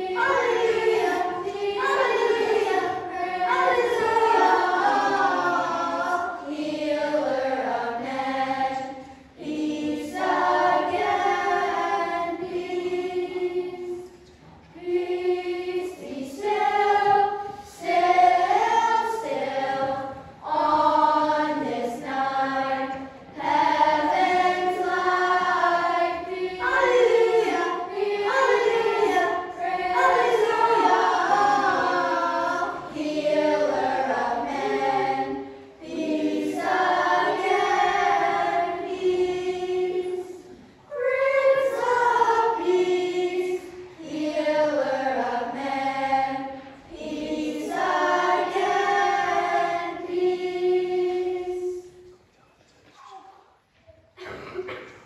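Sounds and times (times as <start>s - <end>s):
children's choir singing: 0.0s - 52.2s.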